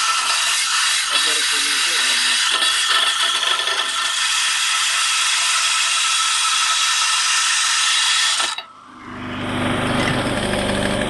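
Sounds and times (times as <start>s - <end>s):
abrasive grinding metal: 0.0s - 10.9s.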